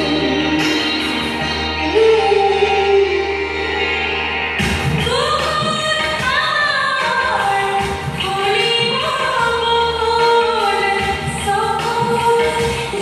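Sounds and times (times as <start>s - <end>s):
instrumental accompaniment: 0.0s - 13.0s
woman singing: 0.0s - 13.0s.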